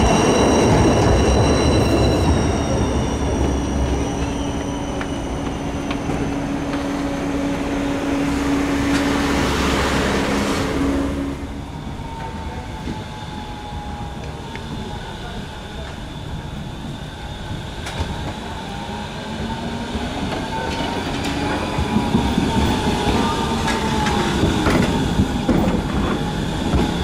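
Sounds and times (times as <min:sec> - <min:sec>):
tram running on rails: 0:00.0 - 0:27.0.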